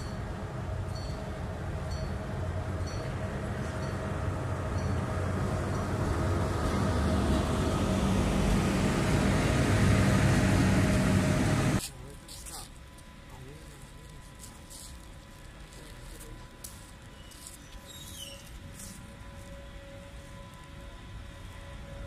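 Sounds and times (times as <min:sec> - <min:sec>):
passenger train passing: 0:00.0 - 0:12.2, 0:12.9 - 0:22.0.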